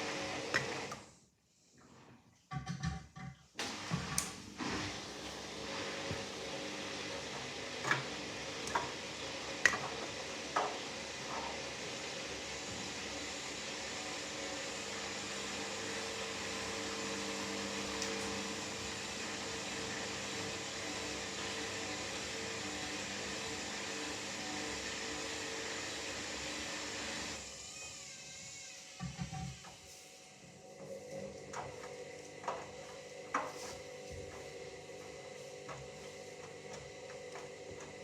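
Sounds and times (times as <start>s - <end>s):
washing machine running: 0.0s - 1.2s, 2.6s - 38.0s.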